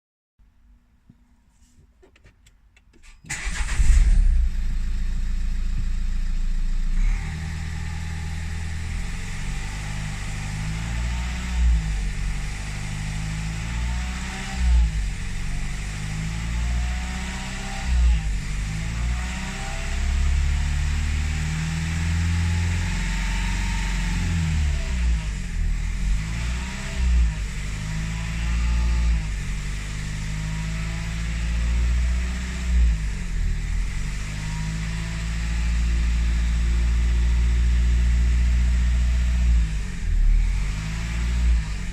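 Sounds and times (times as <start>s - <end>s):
diesel engine starting and revving: 3.0s - 41.9s.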